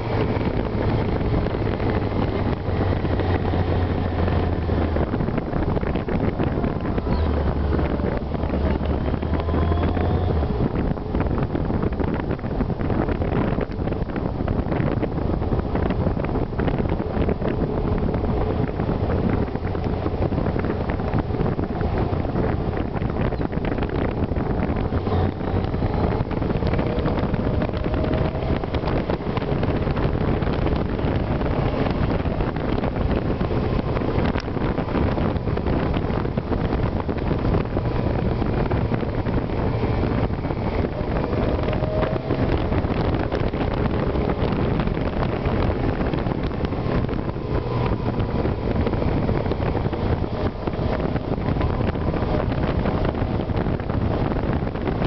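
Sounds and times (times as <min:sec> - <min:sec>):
motorcycle engine cruising: 0:00.0 - 0:55.0
wind on microphone: 0:00.0 - 0:55.0.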